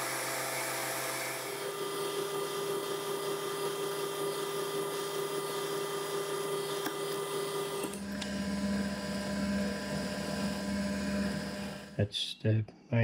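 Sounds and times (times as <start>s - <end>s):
milling machine humming: 0.0s - 12.0s.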